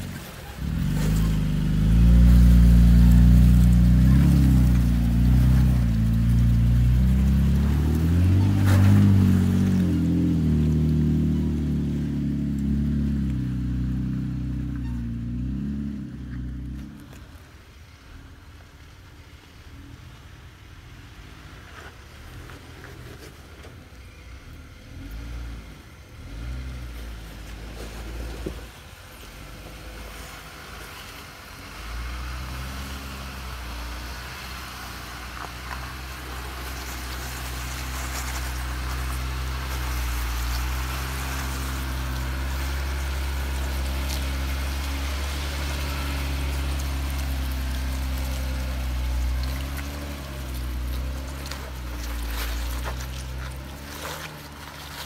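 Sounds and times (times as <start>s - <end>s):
car engine running at low revs: 0.0s - 55.0s.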